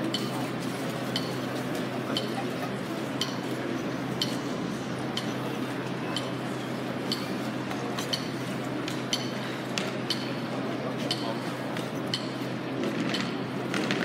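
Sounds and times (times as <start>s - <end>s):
murmur of crowd: 0.0s - 14.0s.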